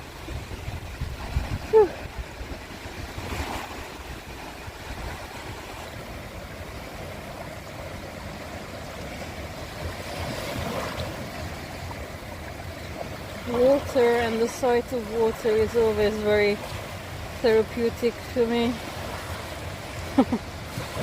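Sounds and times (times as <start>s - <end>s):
small waves washing onto beach: 0.0s - 21.0s
wind rumble on microphone: 0.0s - 21.0s.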